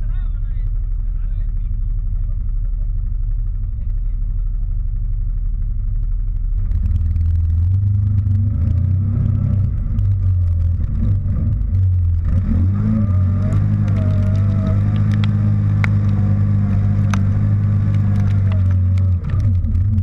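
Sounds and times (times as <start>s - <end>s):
atv engine accelerating: 0.0s - 20.0s
chassis clatter: 0.0s - 20.0s.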